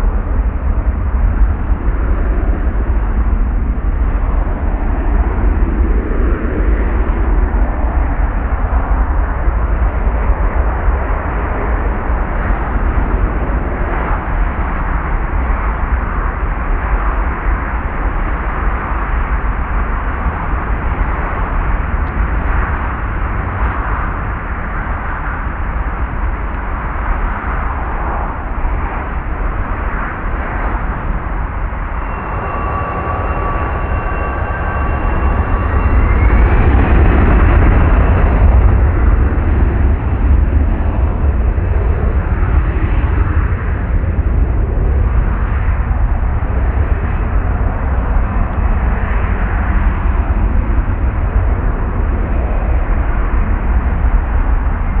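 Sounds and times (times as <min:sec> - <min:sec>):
jet engine whining: 0:00.0 - 0:51.4
jet engines roaring: 0:00.0 - 0:55.0.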